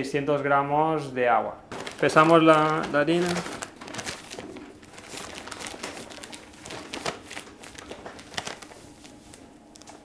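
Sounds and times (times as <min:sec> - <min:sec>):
paper sack crinkling: 0:01.7 - 0:10.0.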